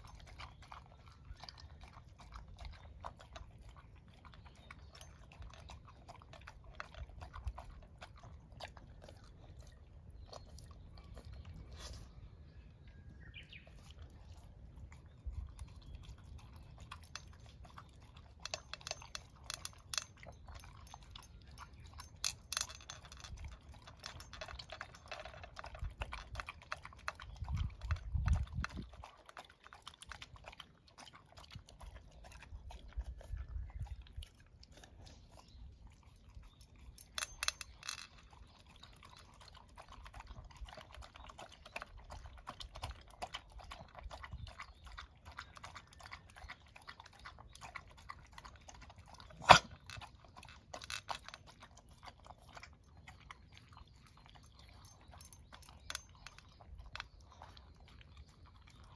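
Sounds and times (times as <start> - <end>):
dog chewing crunchy food: 0.0 - 12.2, 13.5 - 58.9.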